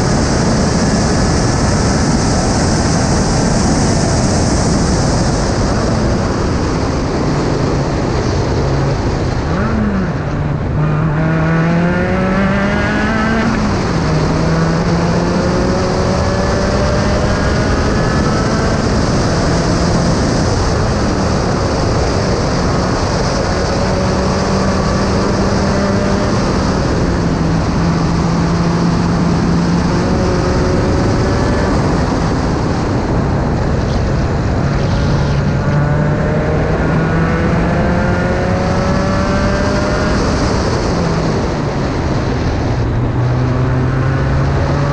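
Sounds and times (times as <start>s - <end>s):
racing car engine accelerating: 0.0s - 44.9s
wind and road noise: 0.0s - 44.9s.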